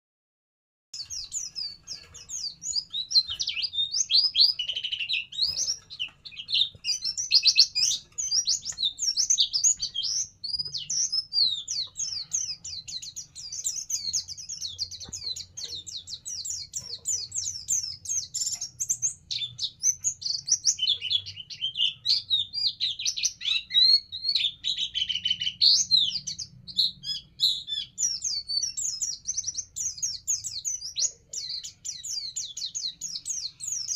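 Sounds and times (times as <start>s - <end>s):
songbird twittering: 1.0s - 33.9s.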